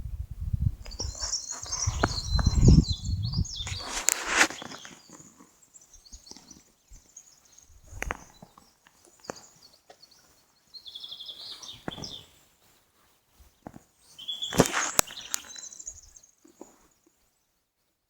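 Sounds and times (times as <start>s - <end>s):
small birds chirping: 0.8s - 12.6s, 13.4s - 17.6s.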